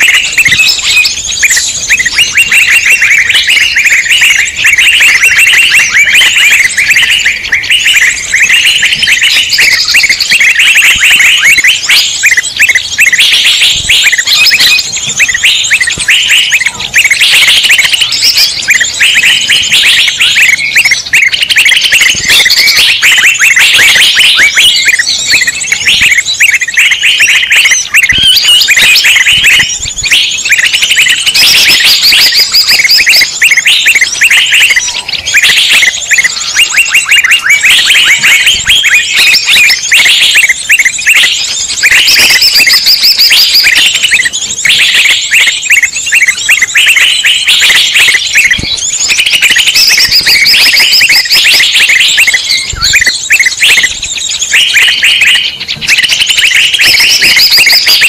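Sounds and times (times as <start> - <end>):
chorus of small birds chirping: 0.0 - 58.0.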